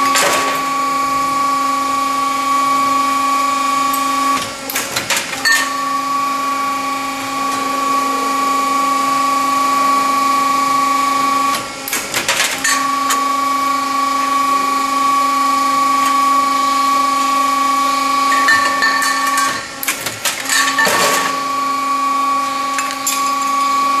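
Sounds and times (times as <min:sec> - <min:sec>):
machine motor whine: 0:00.0 - 0:24.0.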